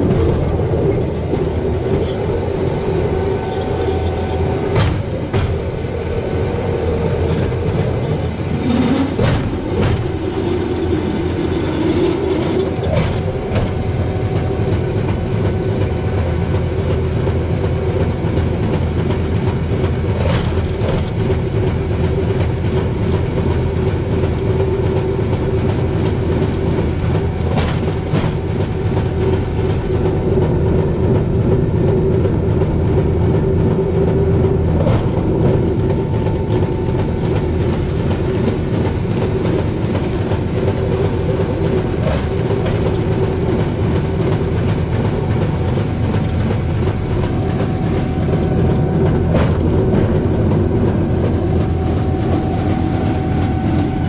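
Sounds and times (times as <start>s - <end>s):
wheels rumbling on rails: 0.0s - 54.0s.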